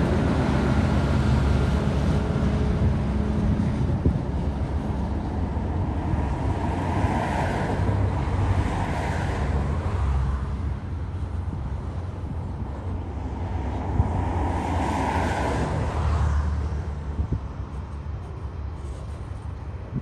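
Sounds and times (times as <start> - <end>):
diesel locomotive engine hum: 0.0 - 20.0
train wagons rumbling on rails: 0.0 - 20.0.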